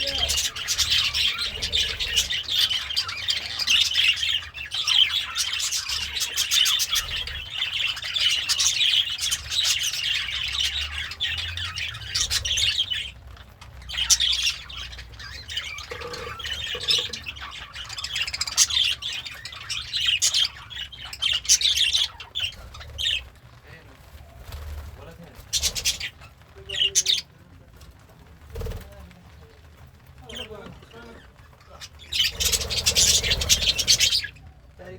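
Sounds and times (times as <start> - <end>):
budgie chattering and warbling: 0.0 - 27.6, 28.4 - 34.9.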